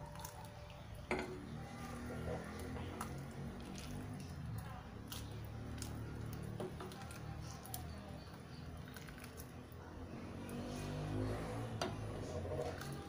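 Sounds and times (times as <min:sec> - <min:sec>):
ladle stirring thick soup: 0:00.0 - 0:13.0.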